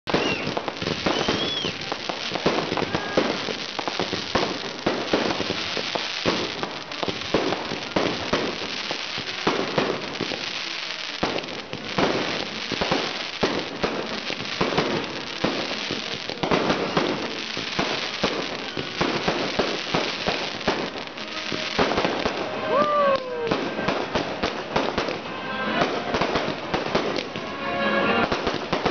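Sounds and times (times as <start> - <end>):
fireworks crackling and banging: 0.0 - 28.9.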